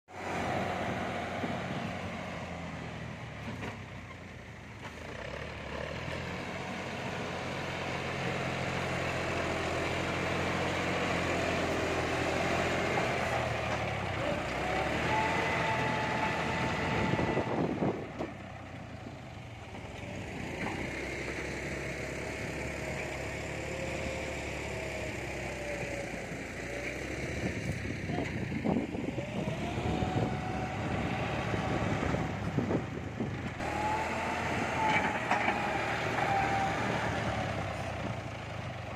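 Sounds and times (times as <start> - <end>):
tractor diesel engine under load: 0.1 - 38.9.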